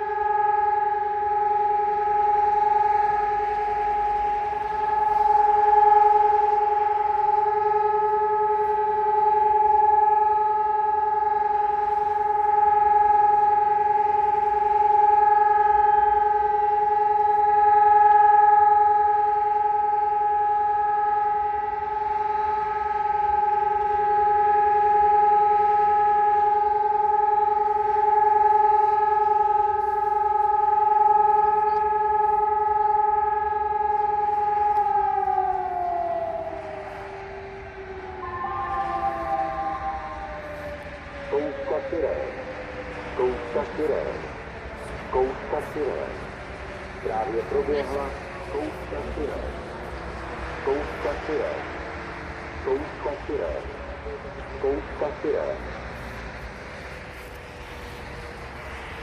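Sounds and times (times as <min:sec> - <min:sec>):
steady siren tone: 0:00.0 - 0:59.0.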